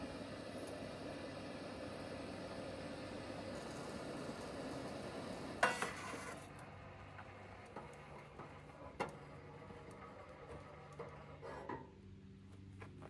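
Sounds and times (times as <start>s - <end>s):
faint steady hiss: 0.0s - 11.1s.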